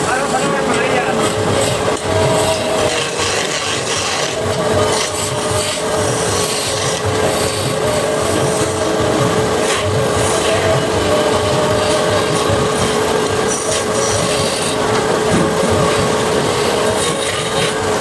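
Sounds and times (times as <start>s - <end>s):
steady machine hum: 0.0s - 18.0s
wood being rasped: 0.1s - 18.0s.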